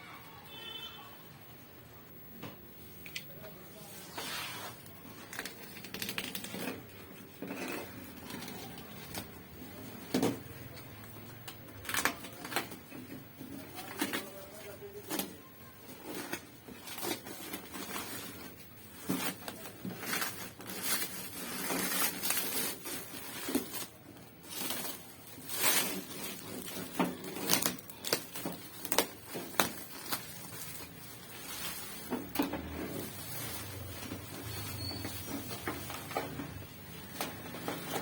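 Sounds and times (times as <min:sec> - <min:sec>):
cardboard and plastic rustling: 0:02.8 - 0:38.0.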